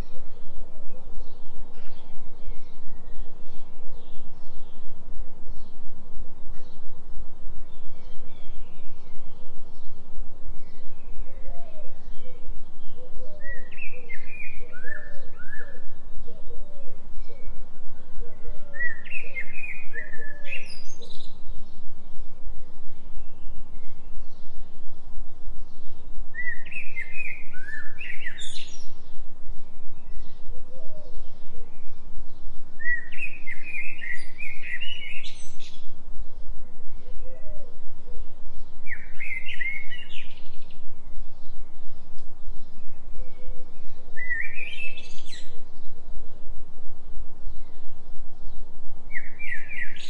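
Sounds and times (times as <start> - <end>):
songbird chirping: 0.0 - 50.0.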